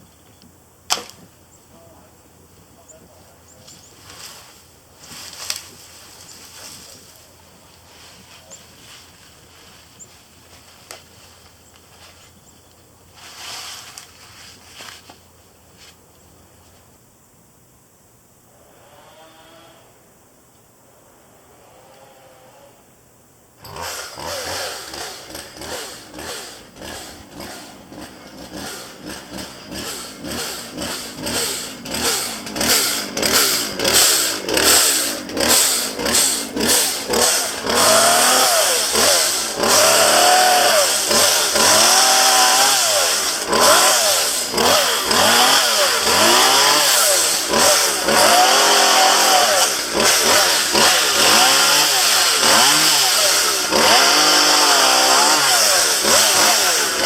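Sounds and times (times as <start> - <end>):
chainsaw cutting branches: 3.6 - 11.9, 13.1 - 15.2, 18.5 - 20.0, 21.5 - 22.8, 23.6 - 57.0.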